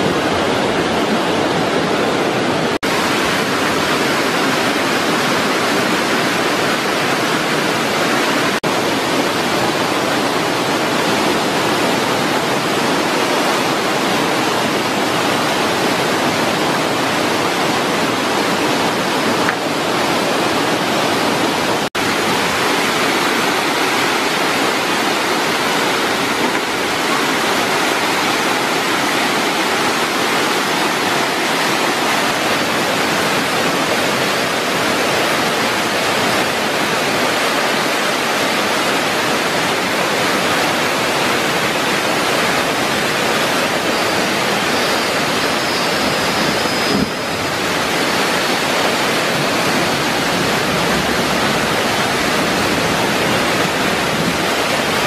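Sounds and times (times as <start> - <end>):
white water roaring: 0.0 - 55.0.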